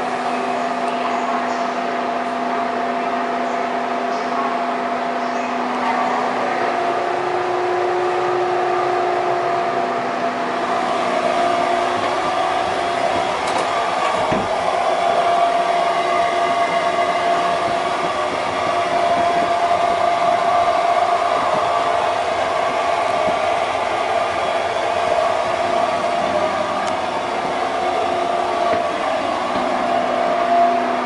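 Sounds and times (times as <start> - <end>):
train rumbling and rushing: 0.0 - 31.0
steady hum: 4.2 - 31.0.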